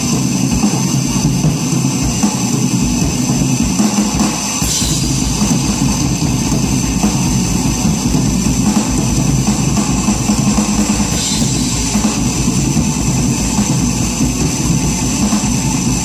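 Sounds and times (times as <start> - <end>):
drum kit: 0.0 - 16.0.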